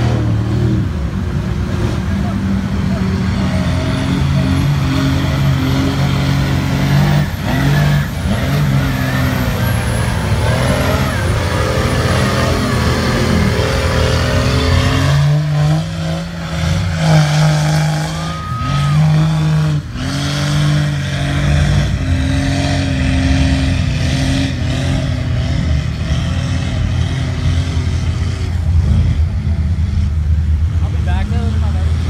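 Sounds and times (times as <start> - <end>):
diesel engine revving hard: 0.0 - 32.0.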